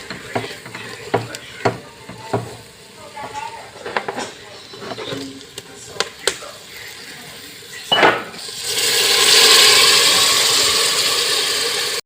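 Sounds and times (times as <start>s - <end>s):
cooking pot hissing: 0.0s - 12.0s.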